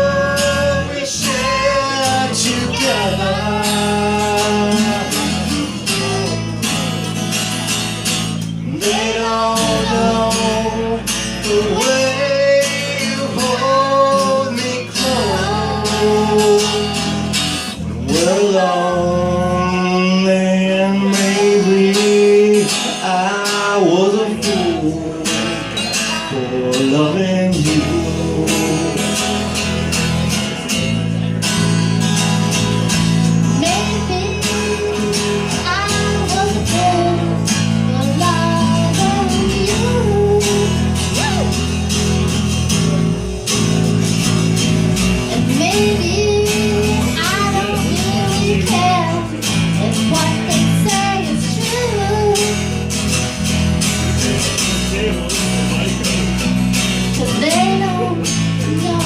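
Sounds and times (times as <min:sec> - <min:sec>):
bass line: 0:00.0 - 0:59.0
strummed acoustic guitar: 0:00.0 - 0:59.0.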